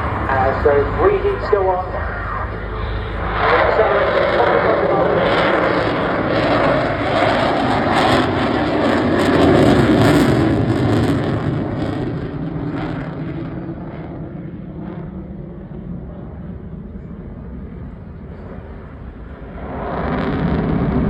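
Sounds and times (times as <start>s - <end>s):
jet engines in afterburner: 0.0s - 21.0s.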